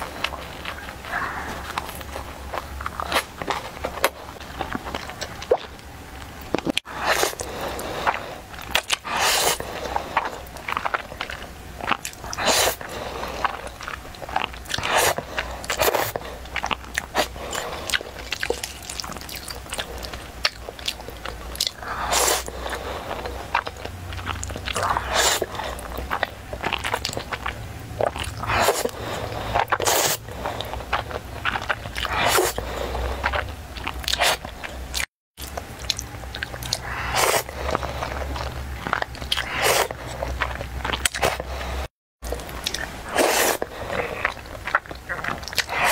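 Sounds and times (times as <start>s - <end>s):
slurping noodles: 6.8s - 34.5s, 35.9s - 45.9s.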